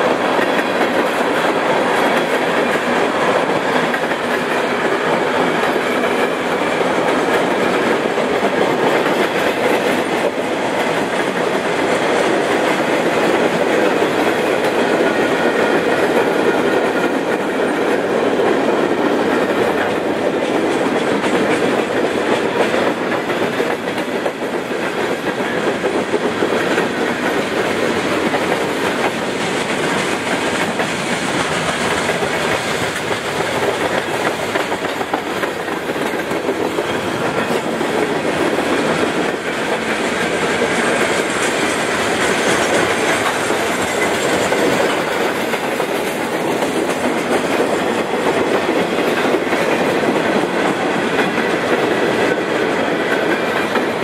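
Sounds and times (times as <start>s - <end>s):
clicking over rail joints: 0.0s - 54.0s
train wheels rumbling on rails: 0.0s - 54.0s.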